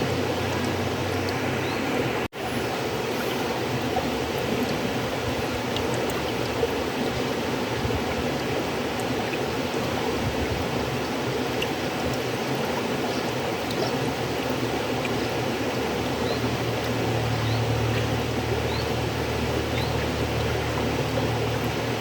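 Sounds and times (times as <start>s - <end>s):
small splashes and drips: 0.0s - 1.5s, 3.1s - 22.0s
river water flowing: 0.0s - 22.0s.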